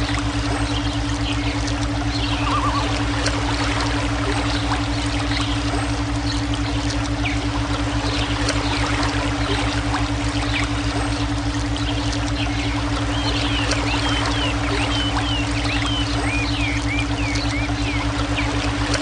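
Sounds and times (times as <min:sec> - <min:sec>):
low pulsing hum: 0:00.0 - 0:19.0
running water pouring and trickling: 0:00.0 - 0:19.0.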